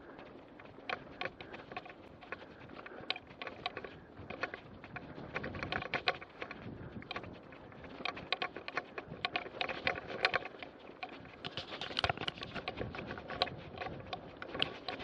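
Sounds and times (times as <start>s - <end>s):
bike rattles and clicks: 0.0s - 15.0s
bike tyre and wind noise: 0.0s - 15.0s.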